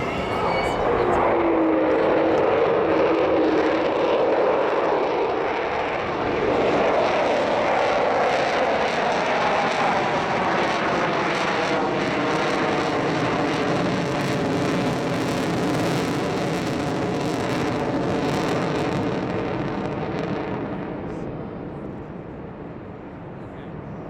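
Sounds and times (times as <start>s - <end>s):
loud jet engine noise: 0.0s - 24.0s.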